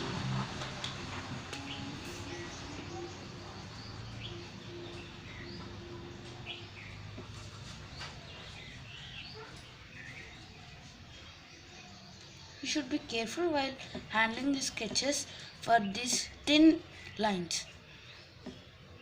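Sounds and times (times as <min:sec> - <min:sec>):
low steady hum: 0:00.0 - 0:18.2
birds chirping: 0:00.0 - 0:19.0.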